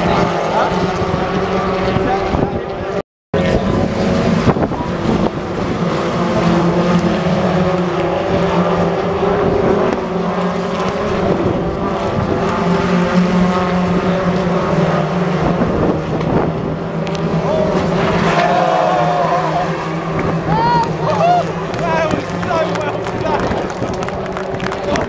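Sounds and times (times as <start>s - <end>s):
racing car engines passing: 0.0s - 25.0s.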